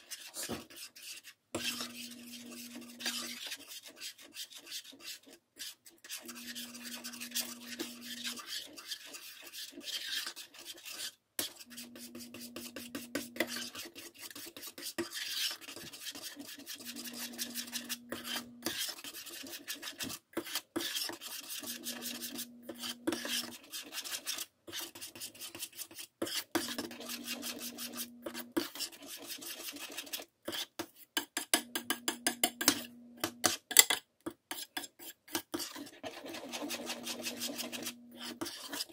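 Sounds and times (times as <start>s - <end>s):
metal spoon scraping saucepan: 0.0s - 5.3s, 6.0s - 30.7s, 31.4s - 38.9s.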